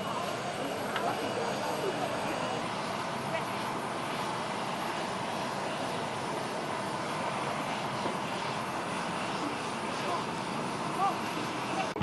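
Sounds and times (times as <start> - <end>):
jet aircraft engine running: 0.0 - 12.0.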